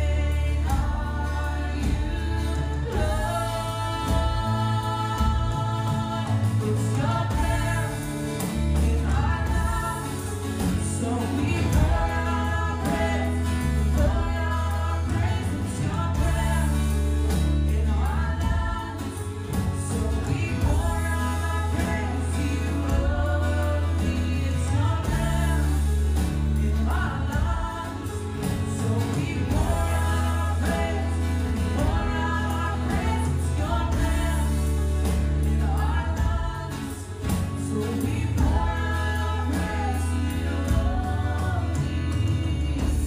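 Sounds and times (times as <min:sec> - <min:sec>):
group singing worship song: 0:00.0 - 0:43.0
instrumental backing with bass: 0:00.0 - 0:43.0.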